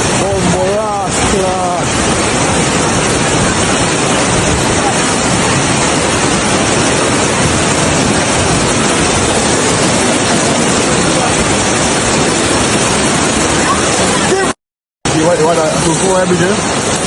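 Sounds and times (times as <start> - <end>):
heavy rain and floodwater rushing: 0.0 - 17.0.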